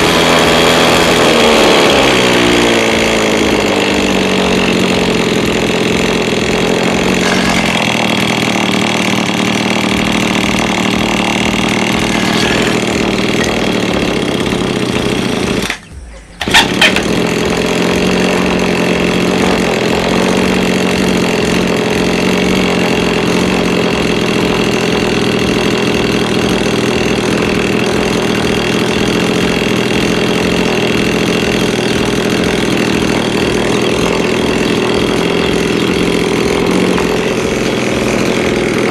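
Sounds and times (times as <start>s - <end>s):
two-stroke grass-cutter engine: 0.0s - 38.9s.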